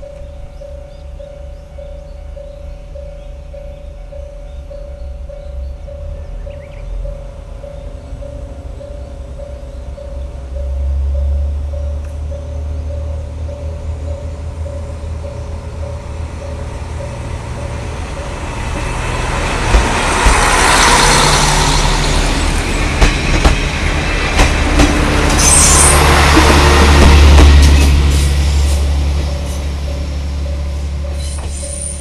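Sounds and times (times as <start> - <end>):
diesel railcar engine rumble: 0.0 - 32.0.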